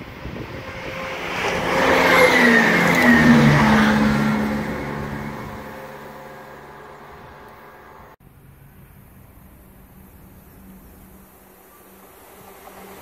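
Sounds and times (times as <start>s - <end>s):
train passing at speed: 0.0s - 8.2s, 9.8s - 13.0s.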